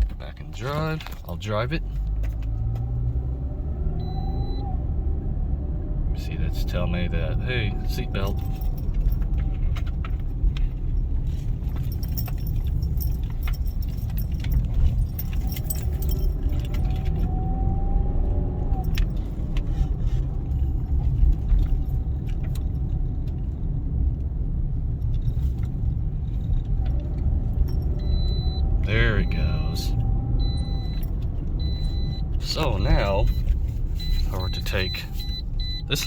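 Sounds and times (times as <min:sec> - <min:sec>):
road and engine rumble: 0:00.0 - 0:36.0.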